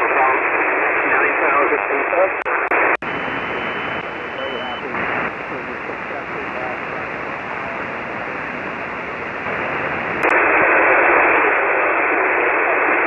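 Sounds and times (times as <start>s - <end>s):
shortwave receiver hiss: 1.1s - 13.0s.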